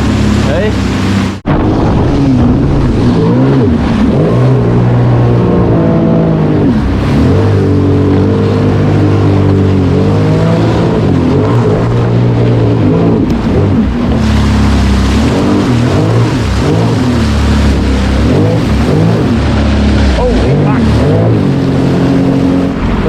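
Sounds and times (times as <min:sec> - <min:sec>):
personal watercraft engine running: 0:00.0 - 0:23.0.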